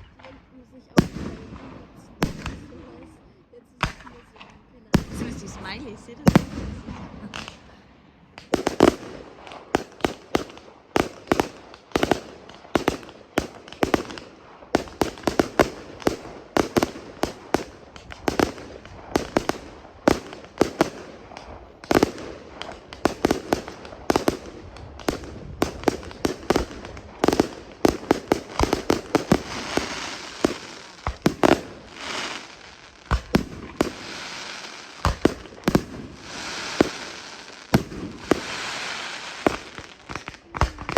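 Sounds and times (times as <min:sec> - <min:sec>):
fireworks bangs: 0:00.0 - 0:40.9
fireworks crackling hiss: 0:00.9 - 0:40.9.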